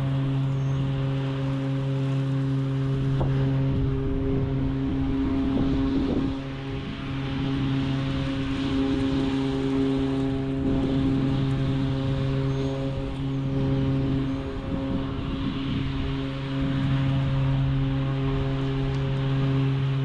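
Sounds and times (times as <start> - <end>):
electric mower hum: 0.0 - 20.0.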